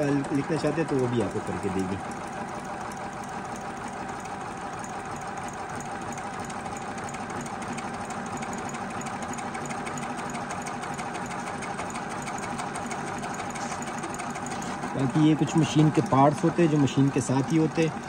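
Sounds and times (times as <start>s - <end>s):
sewing machine motor hum: 0.0s - 18.0s
sewing needle ticking: 0.0s - 18.0s.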